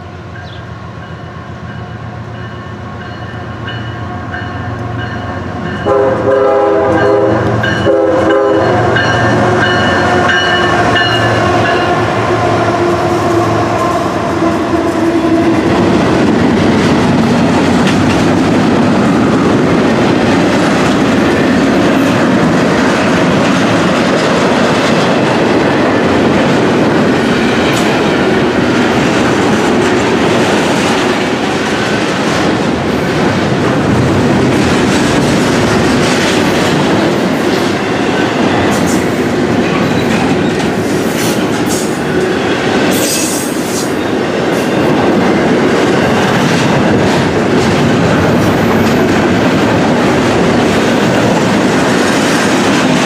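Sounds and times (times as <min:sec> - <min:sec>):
train wheels rumbling on rail: 0:00.0 - 0:53.0
wheels clacking over rail joints: 0:08.8 - 0:53.0.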